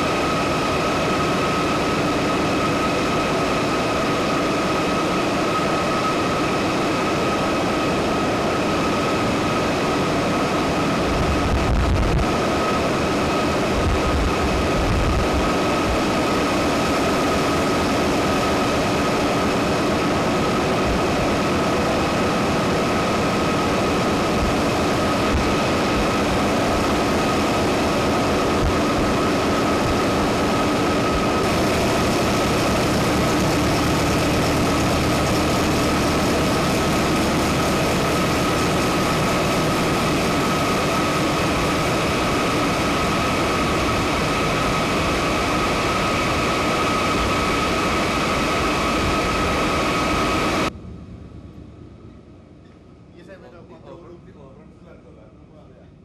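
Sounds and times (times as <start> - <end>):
constant high whine: 0.0 - 56.0
machinery drone: 0.0 - 56.0.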